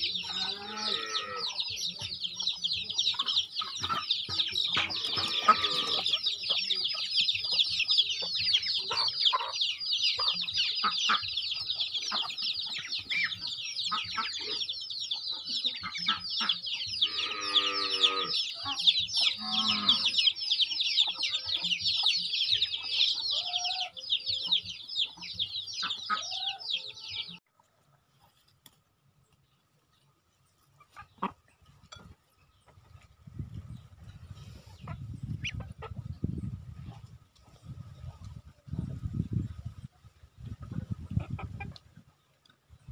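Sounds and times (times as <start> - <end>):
chicks peeping: 0.0 - 28.4, 30.6 - 42.9
chicken clucks: 0.0 - 42.9.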